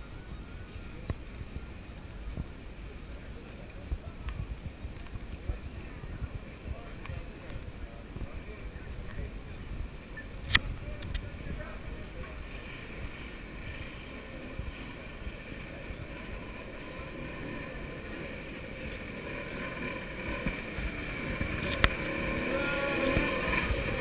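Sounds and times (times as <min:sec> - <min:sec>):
faint voices: 0:00.0 - 0:24.0
low steady rumble: 0:00.0 - 0:24.0
wind buffeting microphone: 0:00.0 - 0:24.0.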